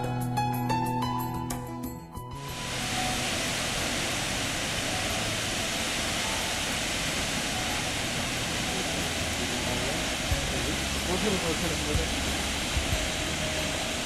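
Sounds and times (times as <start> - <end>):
waterfall rushing: 2.4 - 14.0.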